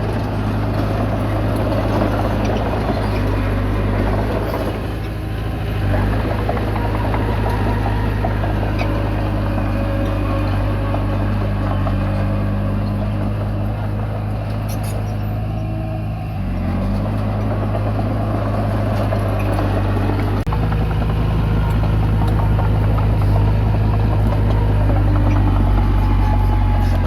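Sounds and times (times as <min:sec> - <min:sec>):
bulldozer diesel engine under load: 0:00.0 - 0:27.0.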